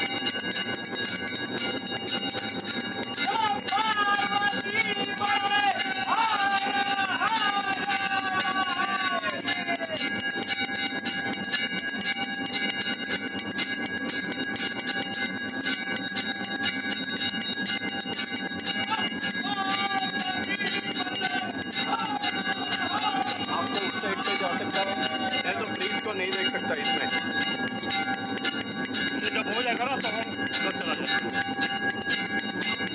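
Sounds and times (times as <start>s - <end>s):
temple bells ringing: 0.0s - 32.9s.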